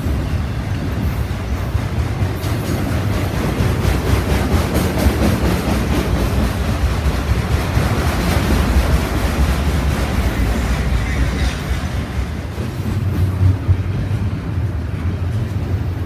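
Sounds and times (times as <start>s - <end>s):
steel wheels running on rails: 0.0s - 16.0s.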